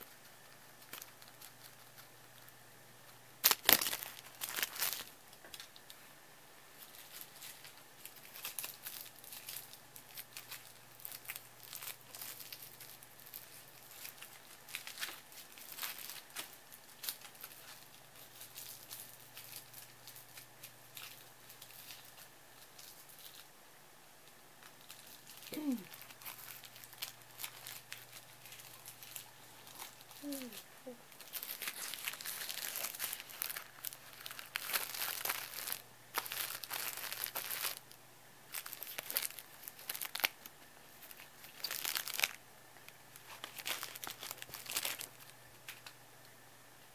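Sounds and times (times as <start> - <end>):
cellophane crinkling: 0.0 - 6.1, 6.7 - 23.6, 24.2 - 46.4.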